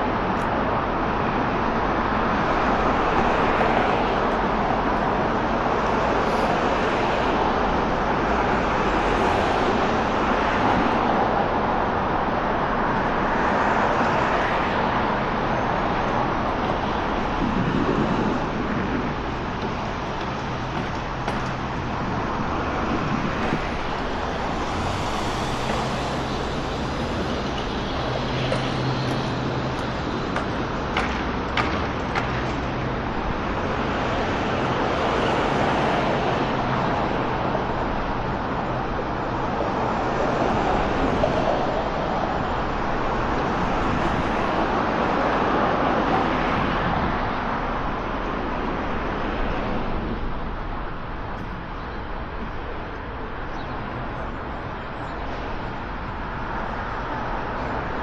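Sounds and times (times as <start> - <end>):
road traffic noise: 0.0 - 58.0.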